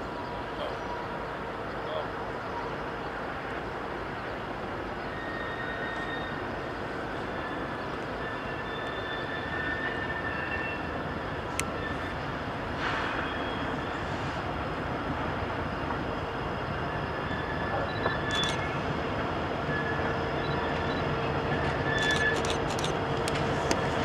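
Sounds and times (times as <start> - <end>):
diesel locomotives rumbling: 0.0 - 24.0.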